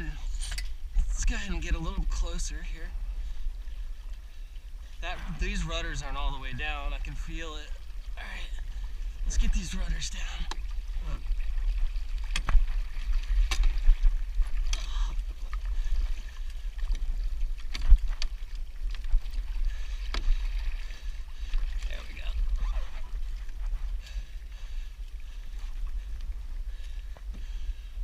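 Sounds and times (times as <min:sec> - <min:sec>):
water rushing along hulls: 0:00.0 - 0:28.0.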